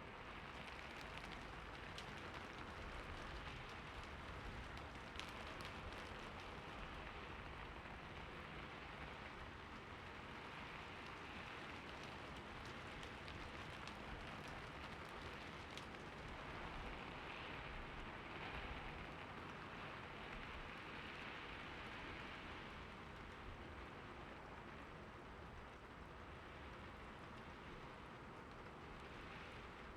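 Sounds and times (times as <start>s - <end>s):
patter of raindrops: 0.0s - 29.9s
soft rain falling: 0.0s - 29.9s.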